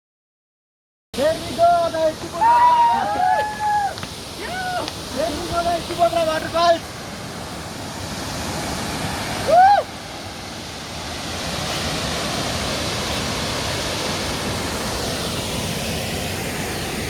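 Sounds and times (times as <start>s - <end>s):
waterfall rushing: 1.2s - 17.0s.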